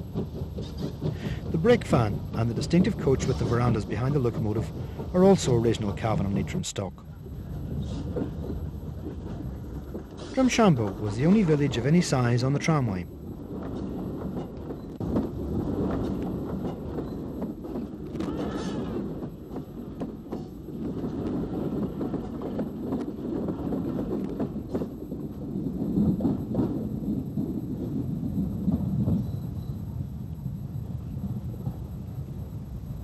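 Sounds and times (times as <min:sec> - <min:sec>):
wagons knocking on track: 0:00.0 - 0:29.7
steam locomotive chuffing: 0:00.0 - 0:29.9.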